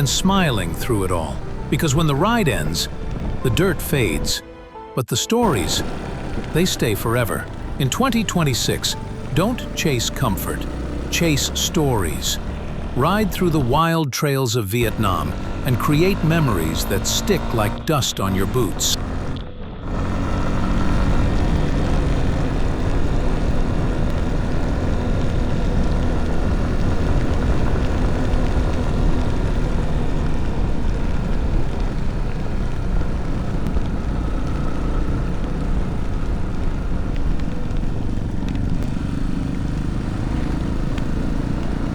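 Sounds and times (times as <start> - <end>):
motorcycle engine running: 0.0 - 4.4, 5.4 - 13.8, 14.8 - 41.9.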